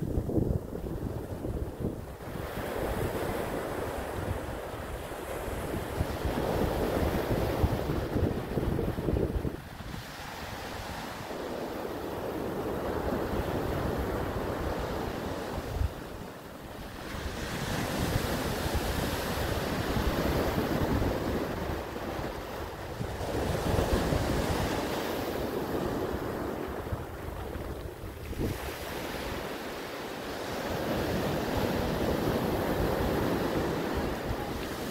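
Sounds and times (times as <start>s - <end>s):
wind buffeting the microphone: 0.0s - 34.9s
ocean surf breaking: 0.9s - 34.9s.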